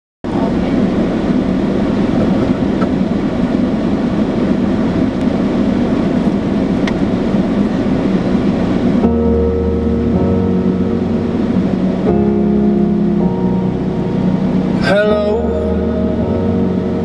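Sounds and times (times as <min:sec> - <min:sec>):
air noise in car cabin: 0:00.2 - 0:17.0
car engine running: 0:00.3 - 0:17.0.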